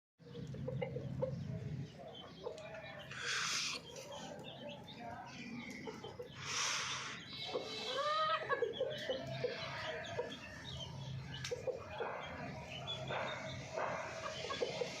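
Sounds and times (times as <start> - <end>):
chickens clucking: 0.2 - 15.0.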